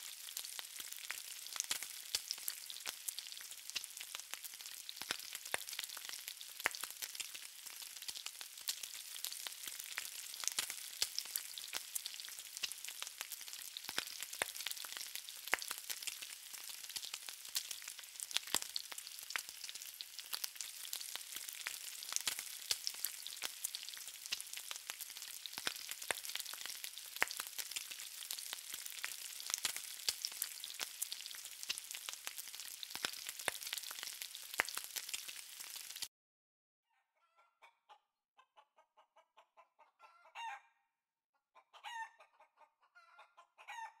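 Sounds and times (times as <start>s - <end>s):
meat sizzling on hot platter: 0.0s - 36.1s.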